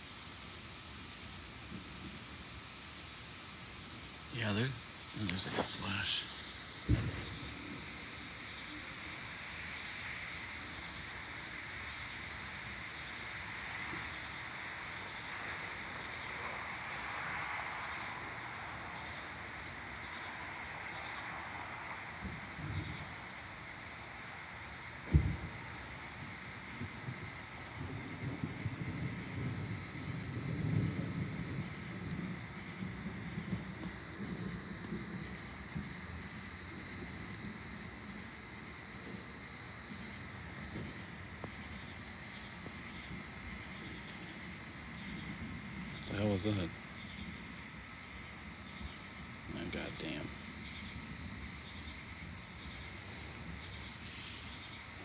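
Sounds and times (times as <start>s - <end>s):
night insects trilling: 0.0s - 55.0s
distant thunder rumble: 4.2s - 23.3s, 24.9s - 55.0s.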